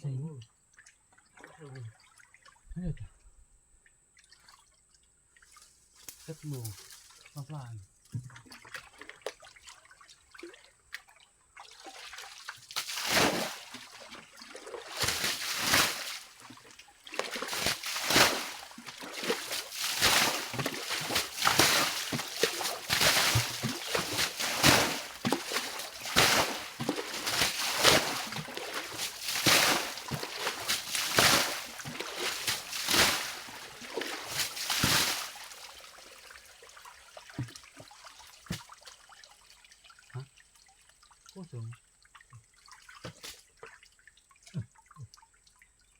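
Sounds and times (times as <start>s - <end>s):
water splashing and sloshing: 0.7s - 2.7s, 4.1s - 7.4s, 8.0s - 45.9s.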